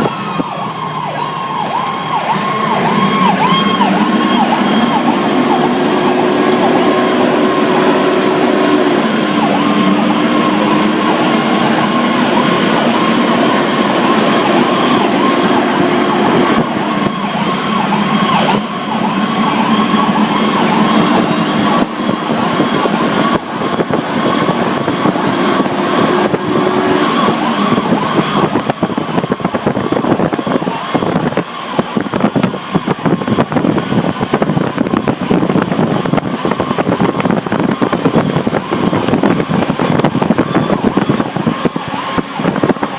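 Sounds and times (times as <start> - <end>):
fire truck siren wailing: 0.0 - 42.9
road noise: 0.0 - 42.9
truck engine: 0.0 - 42.9.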